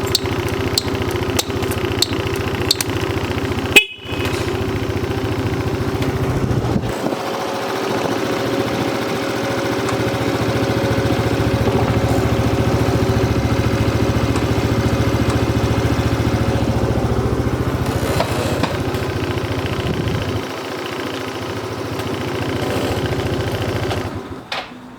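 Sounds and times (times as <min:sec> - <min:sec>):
scooter engine idling: 0:00.0 - 0:24.6.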